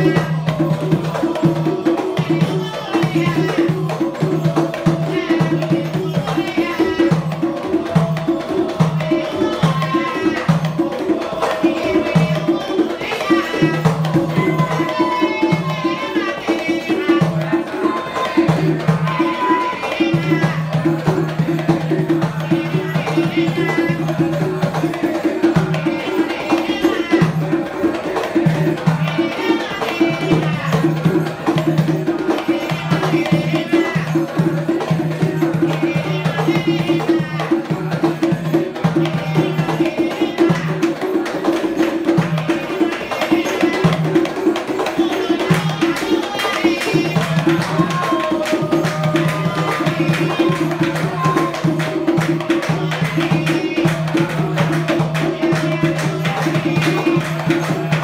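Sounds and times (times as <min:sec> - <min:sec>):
chanted singing: 0:00.0 - 0:58.0
drumming in interlocking rhythm: 0:00.0 - 0:58.0.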